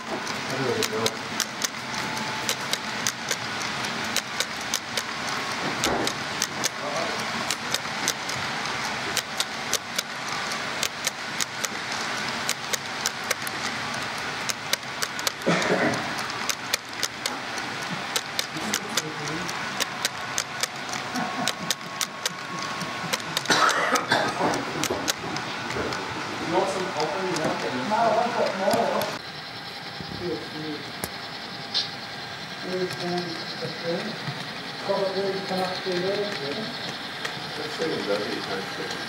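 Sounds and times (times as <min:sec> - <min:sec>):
model train wheels clicking: 0:00.0 - 0:39.0
steady rolling hiss: 0:00.0 - 0:39.0.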